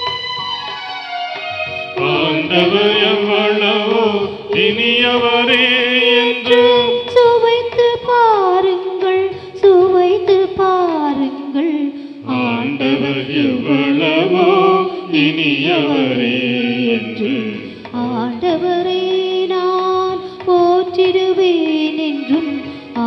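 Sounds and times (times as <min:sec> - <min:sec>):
person singing a hymn: 0:02.0 - 0:23.0.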